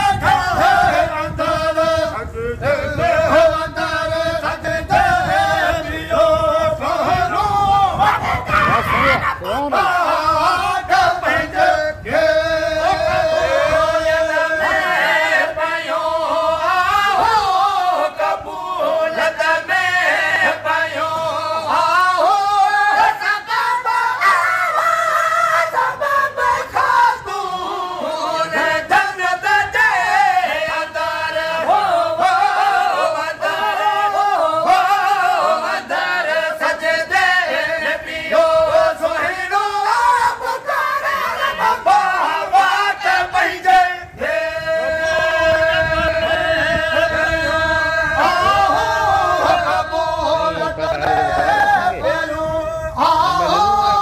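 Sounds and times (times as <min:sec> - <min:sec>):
men singing devotional melody: 0:00.0 - 0:54.0.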